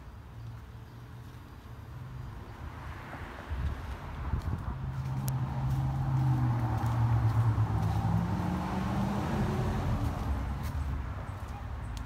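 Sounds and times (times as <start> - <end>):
vehicle engine humming: 0.7 - 12.0.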